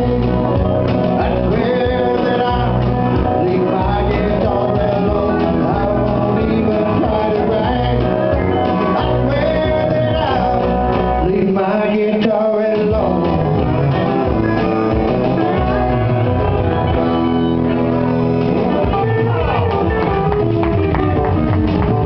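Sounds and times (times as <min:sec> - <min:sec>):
country band playing: 0:00.0 - 0:22.0.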